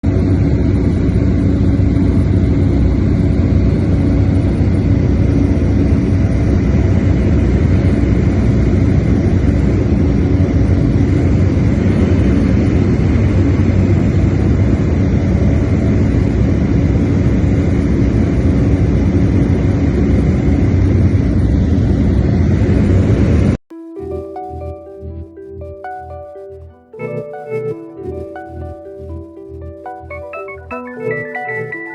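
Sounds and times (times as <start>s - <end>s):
airplane cabin drone: 0.1s - 31.9s.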